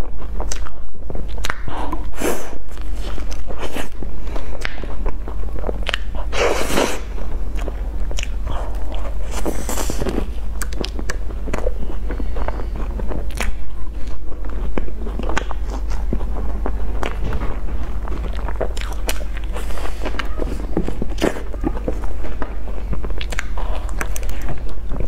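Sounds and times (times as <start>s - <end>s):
crumbs crackling: 0.0s - 25.0s
person chewing food: 0.0s - 25.0s.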